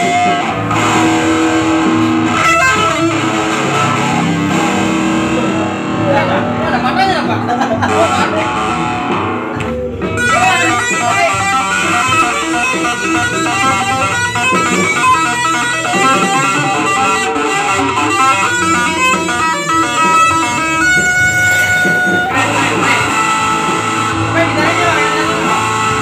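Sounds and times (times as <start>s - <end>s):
electric guitar lead lines: 0.0s - 26.0s.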